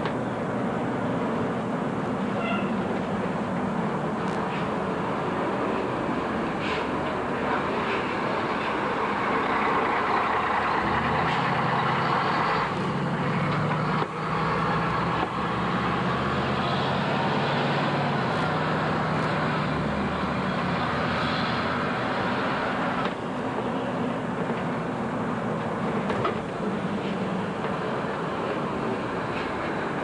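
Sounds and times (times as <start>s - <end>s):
fire engine driving: 0.0s - 30.0s.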